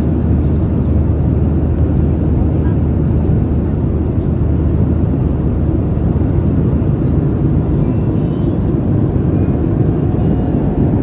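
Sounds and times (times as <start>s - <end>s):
jet cabin engine roar: 0.0s - 11.0s.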